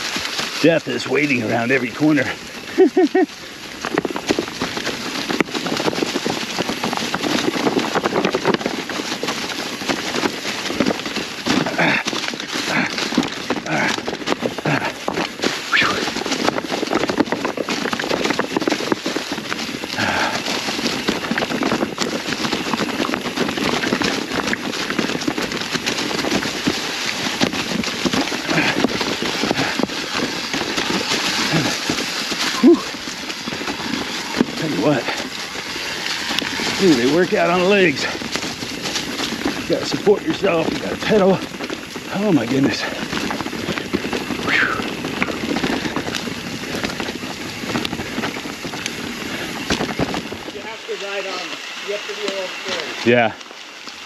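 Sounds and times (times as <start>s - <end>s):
clicks and knocks from rocks: 0.0s - 50.7s
bike rattling: 0.0s - 54.0s
leaves crackling under bike tyres: 0.0s - 54.0s.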